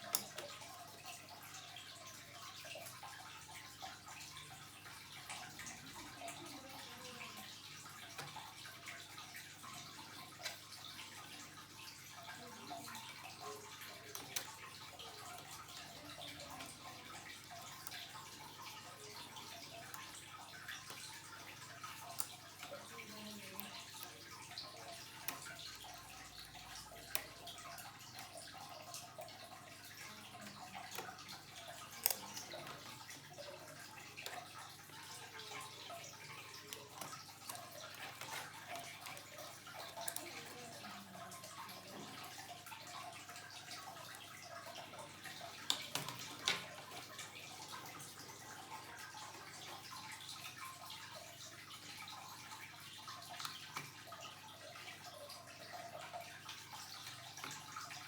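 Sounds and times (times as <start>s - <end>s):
small clicks and ticks: 0.0s - 58.0s.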